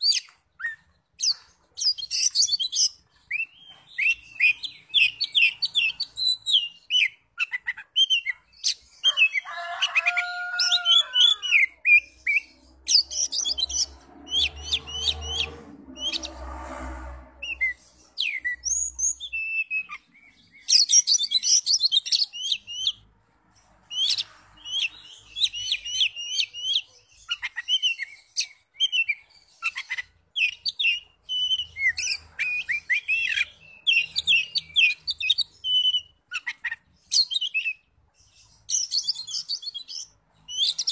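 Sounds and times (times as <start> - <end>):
bird singing chirps and trills: 0.0 - 16.6, 17.2 - 40.9.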